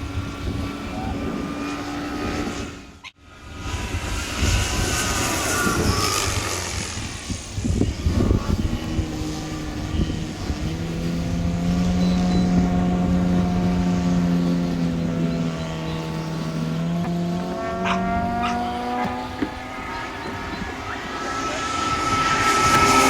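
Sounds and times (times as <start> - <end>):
electric model airplane propeller: 0.0 - 23.0.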